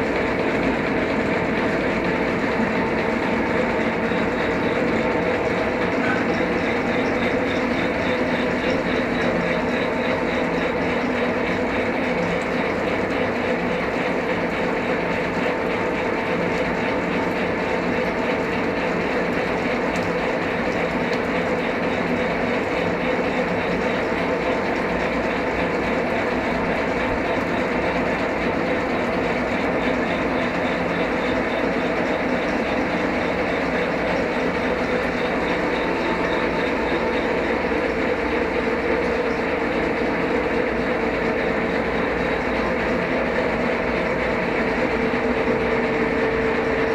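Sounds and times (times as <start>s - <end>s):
milling machine whirring: 0.0s - 46.9s.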